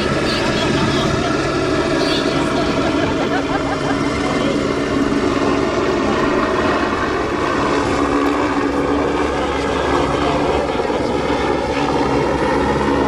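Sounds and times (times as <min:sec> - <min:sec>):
propeller aircraft droning overhead: 0:00.0 - 0:13.0.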